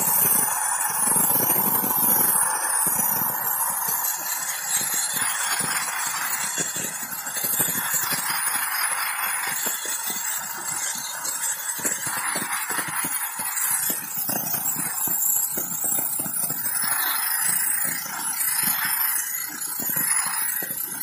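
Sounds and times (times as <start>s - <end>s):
crackling: 0.0s - 21.0s
sandblasting gun hissing: 0.0s - 21.0s.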